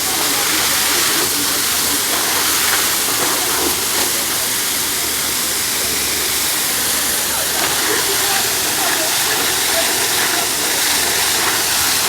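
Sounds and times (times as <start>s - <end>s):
water jet spraying: 0.0s - 12.0s.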